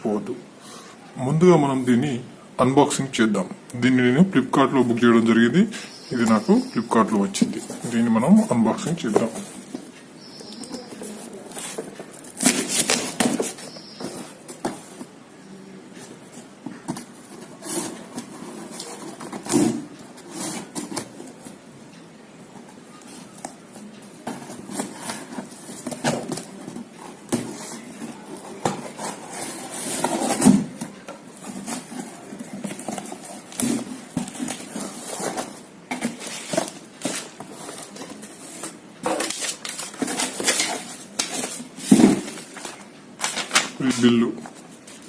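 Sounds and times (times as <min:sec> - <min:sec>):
packaging rustling and crinkling: 0:05.9 - 0:15.2, 0:15.9 - 0:21.5, 0:23.0 - 0:45.0.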